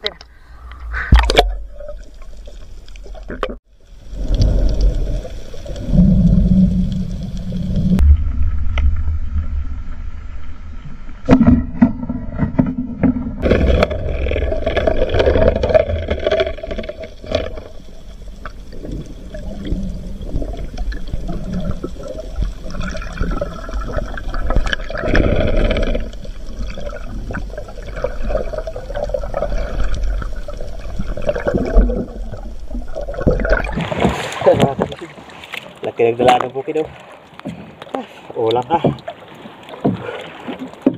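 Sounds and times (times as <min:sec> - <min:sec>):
water gurgling underwater: 0:01.0 - 0:35.2.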